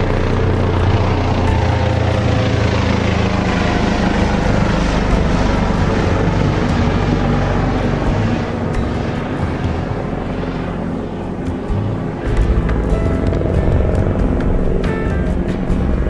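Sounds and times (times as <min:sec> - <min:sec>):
dense rushing noise: 0:00.0 - 0:16.0
large engine running: 0:00.0 - 0:16.0.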